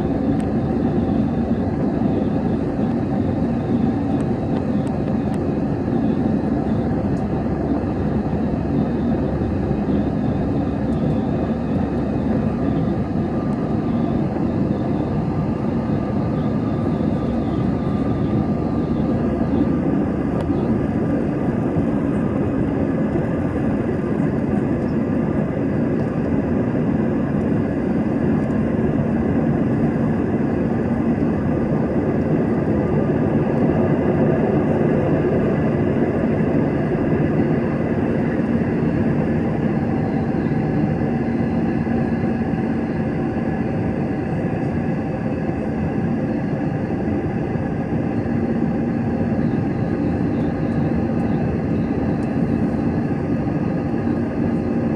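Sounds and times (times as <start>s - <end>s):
airliner cabin noise: 0.0s - 54.9s.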